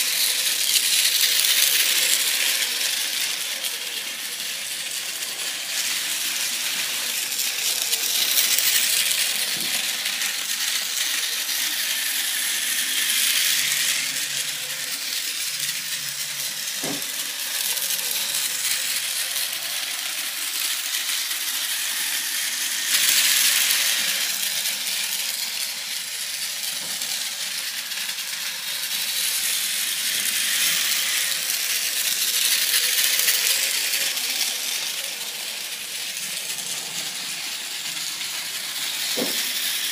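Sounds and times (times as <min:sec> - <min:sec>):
toy train rattling on plastic track: 0:00.0 - 0:39.9.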